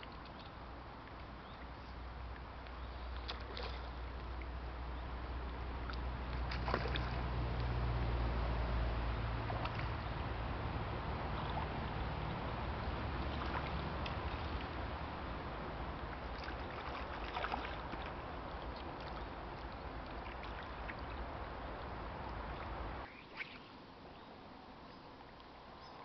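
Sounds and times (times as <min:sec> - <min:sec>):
water splashing: 0:00.0 - 0:04.6, 0:05.7 - 0:24.1
wind rumbling on microphone: 0:00.0 - 0:24.3.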